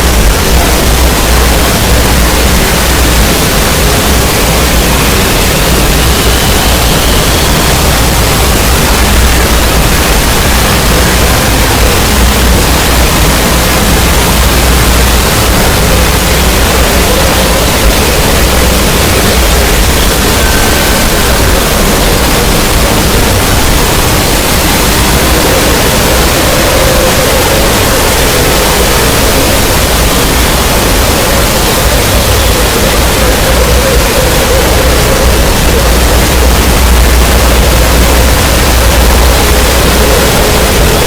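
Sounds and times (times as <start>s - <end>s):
heavy low rumble: 0.0s - 41.0s
static-like hiss: 0.0s - 41.0s.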